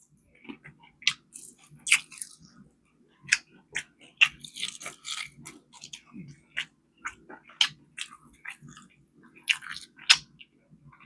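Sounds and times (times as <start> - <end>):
crunchy chewing of fried chicken: 0.0 - 11.0.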